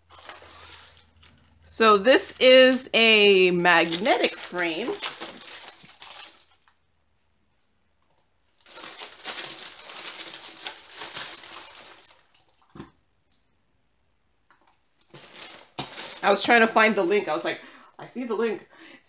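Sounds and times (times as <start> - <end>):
plastic wrapping crinkling: 0.0 - 6.9, 7.6 - 13.0, 14.5 - 18.6.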